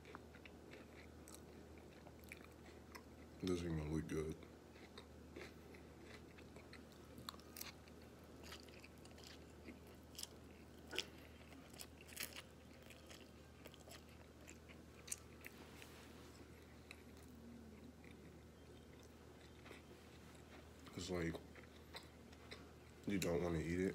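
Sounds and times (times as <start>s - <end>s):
chewing noodles: 0.0s - 3.4s, 4.7s - 23.0s.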